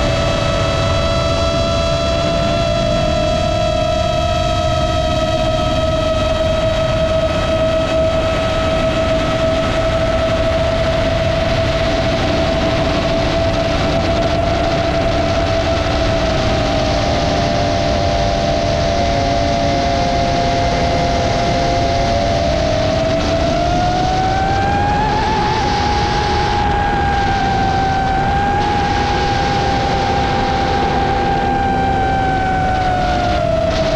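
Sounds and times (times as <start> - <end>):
quadcopter motors whining: 0.0 - 33.9
wind rushing: 0.0 - 33.9.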